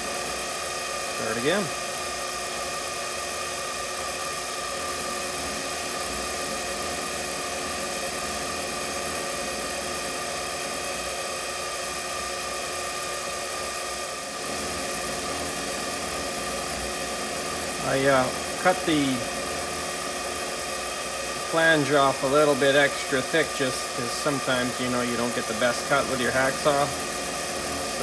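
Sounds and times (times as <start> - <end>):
lathe motor humming and whining: 0.0 - 28.0.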